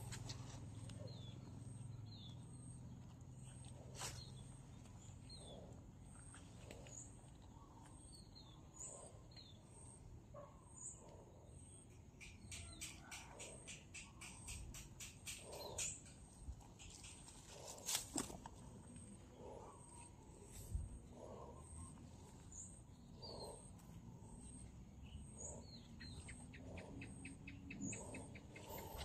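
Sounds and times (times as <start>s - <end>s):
bird chirping: 0.0s - 17.6s, 19.2s - 29.0s
faint outdoor ambience: 0.0s - 29.0s.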